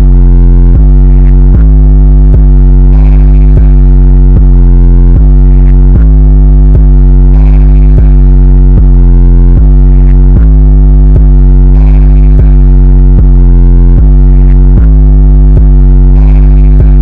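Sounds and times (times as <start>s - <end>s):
bass-heavy electronic music: 0.0s - 17.0s.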